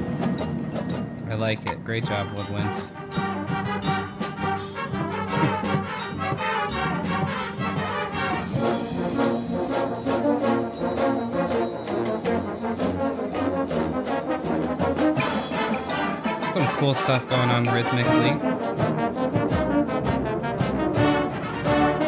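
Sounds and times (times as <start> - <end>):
drum and percussion hits: 0.0 - 10.0, 11.0 - 21.8
marching band brass chords: 1.3 - 22.0.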